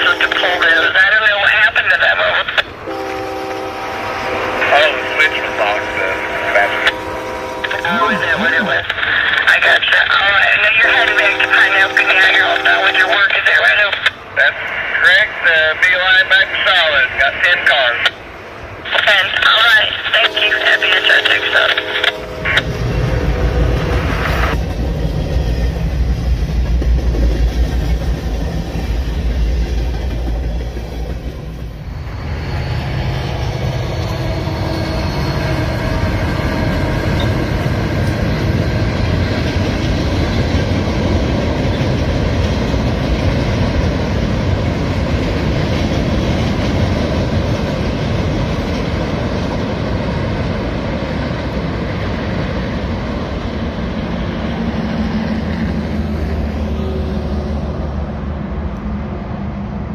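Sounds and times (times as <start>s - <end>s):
freight train crossing steel bridge: 0.0s - 59.9s
freight train heard from car: 0.0s - 59.9s.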